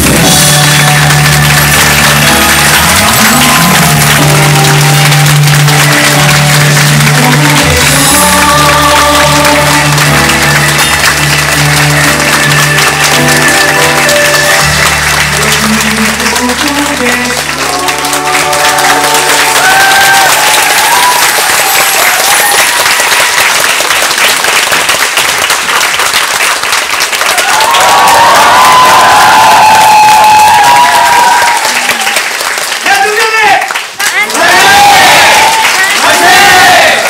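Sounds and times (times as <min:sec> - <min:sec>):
audience applause: 0:00.0 - 0:37.0
musical theatre music: 0:00.0 - 0:37.0.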